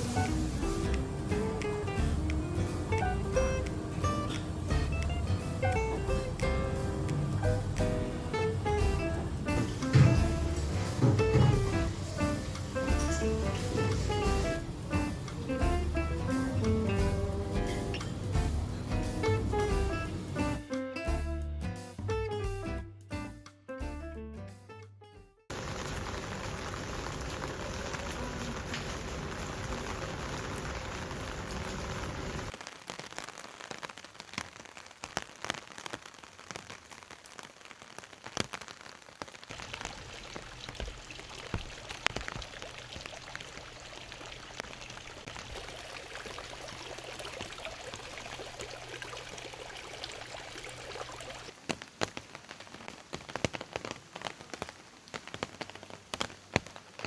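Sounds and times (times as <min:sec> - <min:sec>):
steady rain falling: 0:00.0 - 0:20.7, 0:25.5 - 0:57.0.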